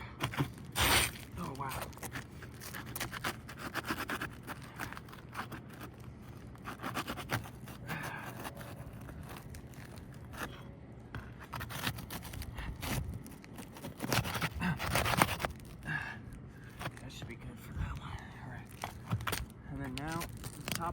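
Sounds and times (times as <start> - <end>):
shingles scraping and tearing: 0.0 - 16.0, 16.6 - 17.7, 18.5 - 20.9.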